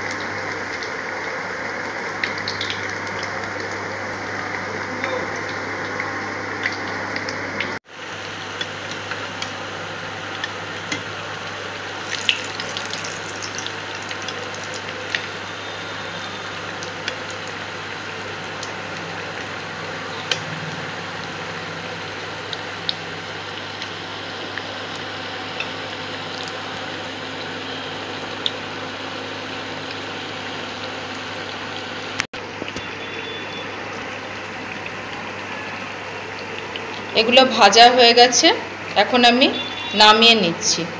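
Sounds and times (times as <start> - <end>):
deep-frying sizzle: 0.0 - 40.8.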